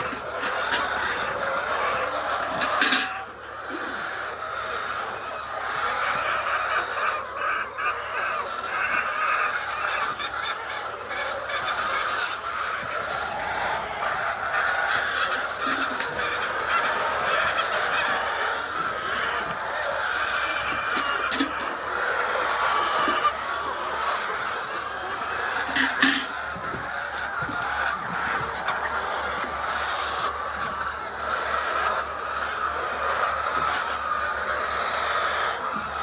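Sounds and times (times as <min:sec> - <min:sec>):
hens clucking and squawking: 0:00.0 - 0:36.0.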